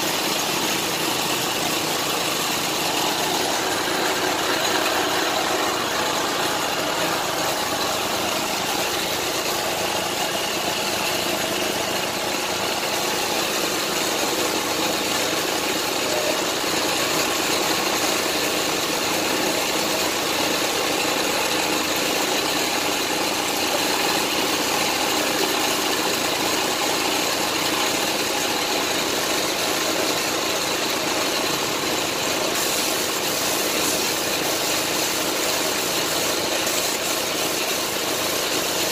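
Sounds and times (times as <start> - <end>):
air compressor running: 0.0 - 38.9
spray gun hissing: 0.1 - 28.6, 32.0 - 38.9.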